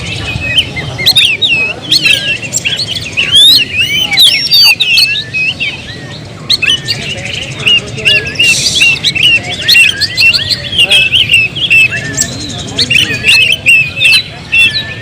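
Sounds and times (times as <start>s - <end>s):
bird singing whistles and chirps: 0.0s - 15.0s.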